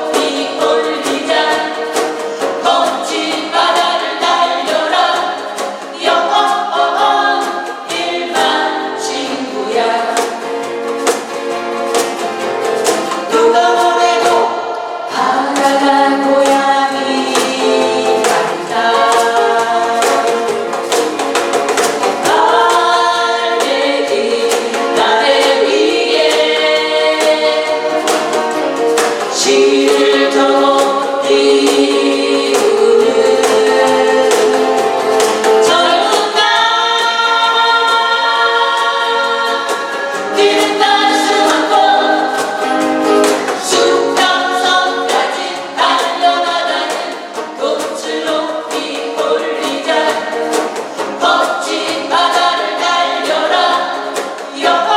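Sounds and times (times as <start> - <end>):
group singing in unison: 0.0 - 54.9
strummed acoustic guitars: 0.0 - 54.9.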